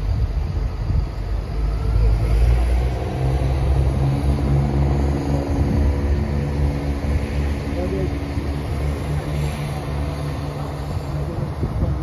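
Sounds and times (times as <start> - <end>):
train engines rumbling: 0.0 - 12.0.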